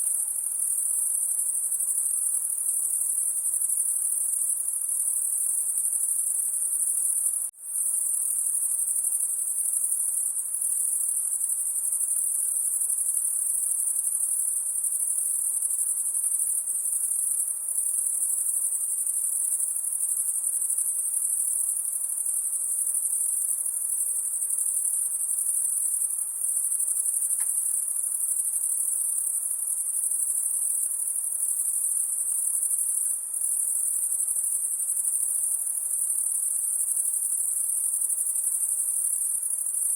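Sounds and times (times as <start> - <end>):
insects shrilling at night: 0.0 - 39.9.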